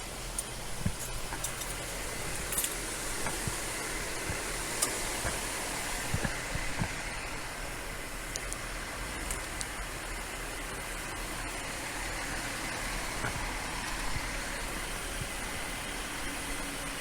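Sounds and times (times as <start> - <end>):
vehicle idling hum: 0.0 - 17.0.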